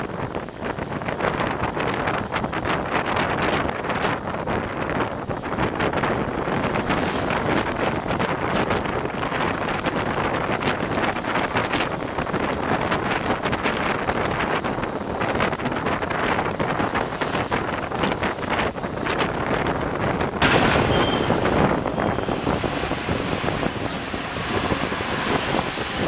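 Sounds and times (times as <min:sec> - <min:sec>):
vehicle road noise: 0:00.0 - 0:26.0
wind buffeting microphone: 0:00.0 - 0:26.0.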